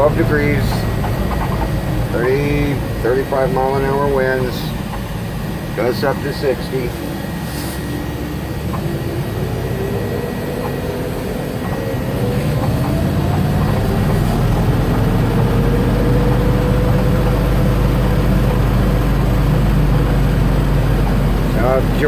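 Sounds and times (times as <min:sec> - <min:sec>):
truck engine droning with whine: 0:00.0 - 0:22.0.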